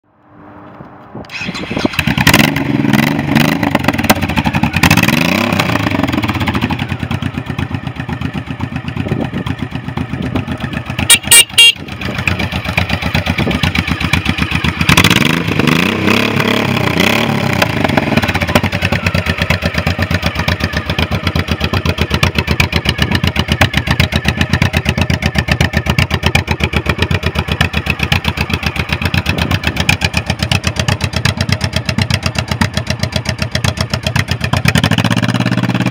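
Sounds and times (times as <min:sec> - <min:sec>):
motorcycle engine revving and idling: 0:01.2 - 0:35.9.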